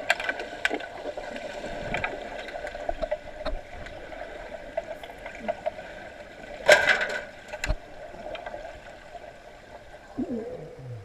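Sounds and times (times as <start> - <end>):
underwater hum: 0.0 - 11.0.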